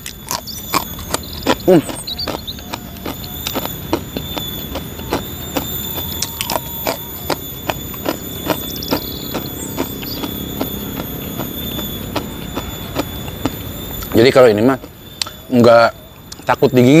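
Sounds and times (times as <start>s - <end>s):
crunchy snack chewing: 0.0s - 16.6s
high-pitched animal whine: 0.0s - 17.0s.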